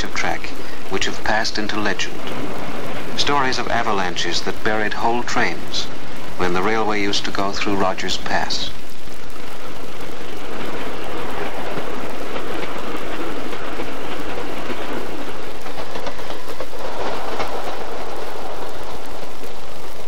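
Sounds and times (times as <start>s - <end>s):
train rushing clatter: 0.0s - 20.0s.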